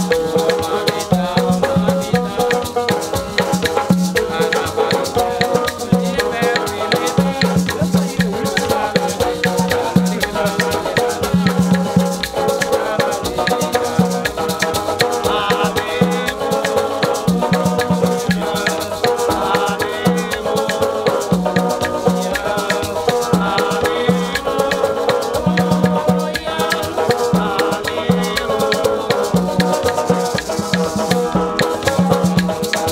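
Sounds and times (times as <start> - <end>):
acoustic guitar strumming: 0.0 - 32.9
banjo strumming: 0.0 - 32.9
maraca rhythm: 0.0 - 32.9
voices singing: 0.0 - 32.9.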